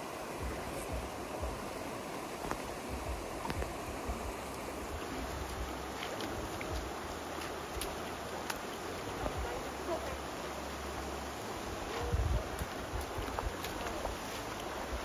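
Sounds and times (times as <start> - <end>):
creek running over rocks: 0.0 - 15.0.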